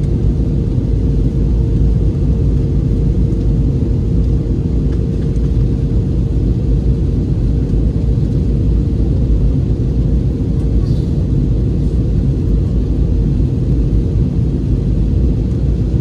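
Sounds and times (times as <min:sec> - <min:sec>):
constant hum tone: 0:00.0 - 0:16.0
jet engine and airflow rumble: 0:00.0 - 0:16.0.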